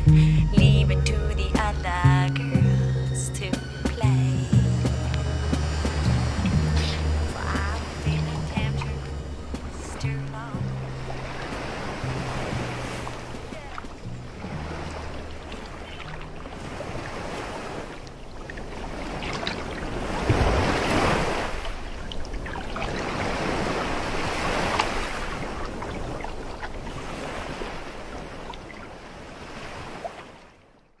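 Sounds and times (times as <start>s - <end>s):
ocean waves washing: 0.0s - 30.8s.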